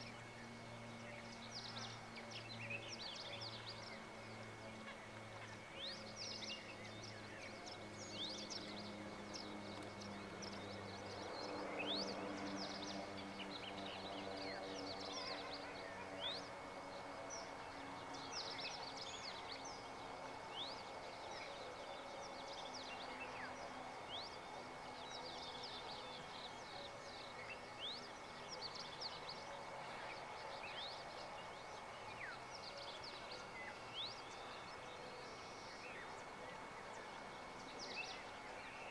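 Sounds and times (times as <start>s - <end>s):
faint low hum: 0.0s - 38.9s
small birds chirping: 0.0s - 38.9s.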